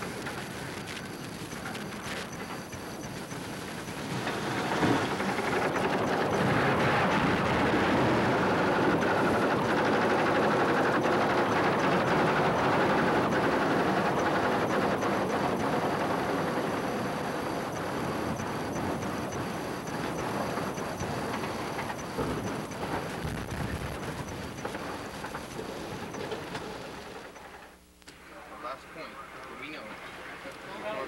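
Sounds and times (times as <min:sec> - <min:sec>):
helicopter engine and rotor: 0:00.0 - 0:27.5.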